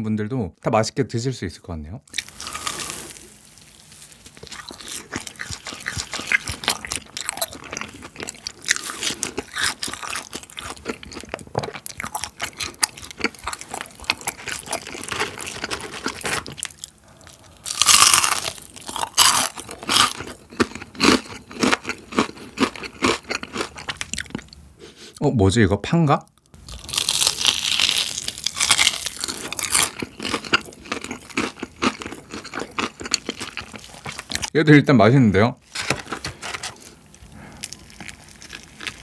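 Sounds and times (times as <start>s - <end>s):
crunching fried chicken: 2.1s - 24.6s, 26.5s - 34.5s, 35.6s - 39.0s.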